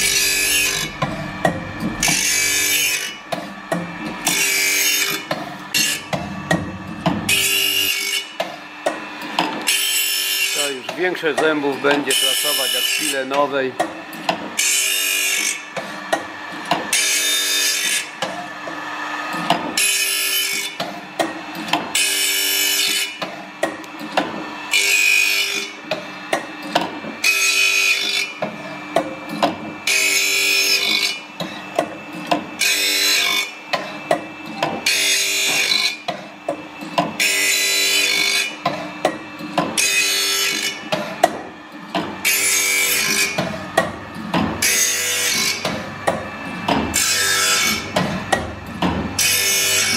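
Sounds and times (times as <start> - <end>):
grinding wheel grinding saw teeth: 0.0 - 49.9
sharpening machine running: 0.0 - 49.9.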